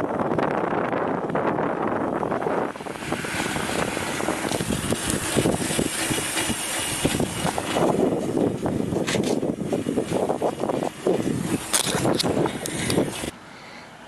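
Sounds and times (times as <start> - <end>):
wind and rolling noise: 0.0 - 13.4.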